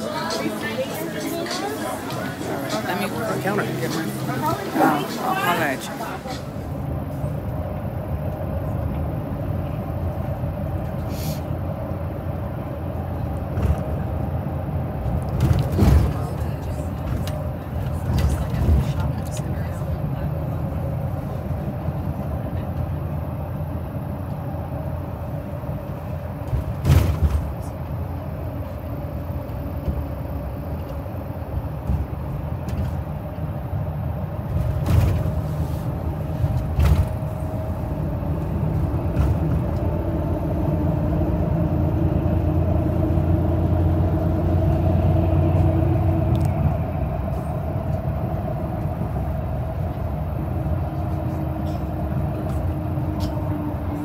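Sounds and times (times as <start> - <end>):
bus engine drone: 0.0 - 54.0
road rumble: 0.0 - 54.0.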